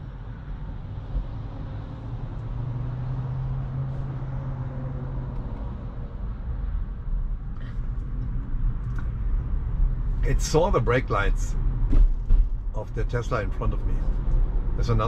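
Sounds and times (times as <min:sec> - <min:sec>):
road noise inside a car: 0:00.0 - 0:15.0.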